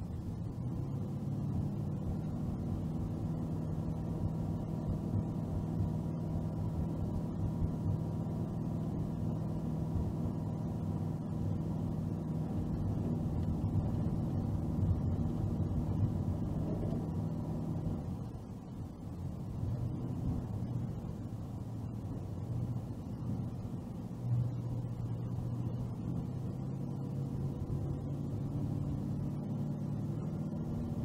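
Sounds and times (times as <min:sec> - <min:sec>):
car engine hum: 0:00.0 - 0:31.0.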